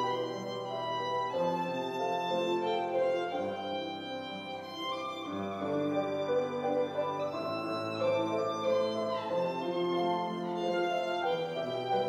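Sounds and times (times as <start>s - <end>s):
violin slow melody: 0.0s - 12.0s.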